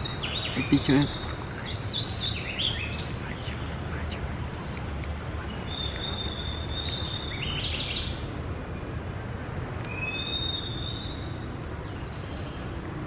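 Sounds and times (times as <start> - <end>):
birds chirping: 0.0 - 8.9, 9.8 - 13.0.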